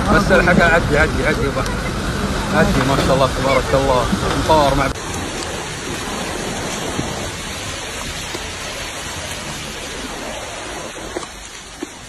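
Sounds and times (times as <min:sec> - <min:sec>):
floodwater rushing down a street: 0:00.0 - 0:12.0.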